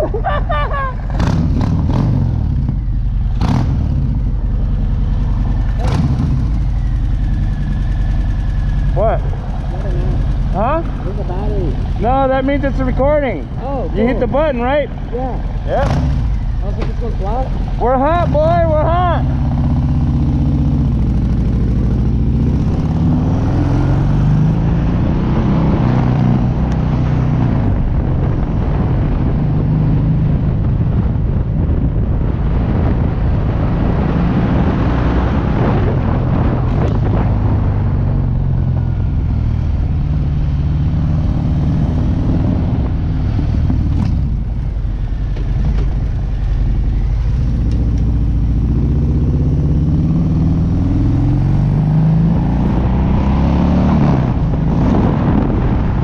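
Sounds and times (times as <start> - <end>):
motorcycle engine accelerating: 0.0 - 56.0
wind rushing over microphone: 8.9 - 56.0.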